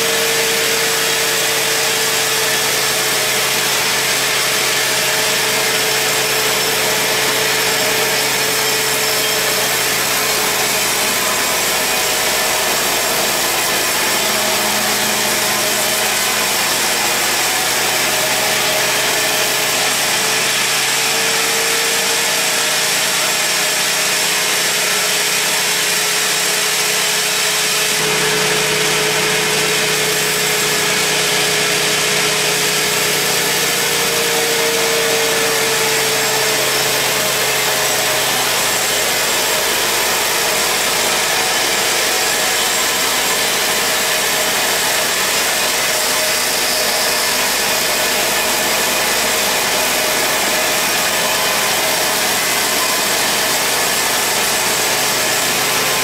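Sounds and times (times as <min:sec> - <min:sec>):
band saw whining through log: 0:00.0 - 0:56.0.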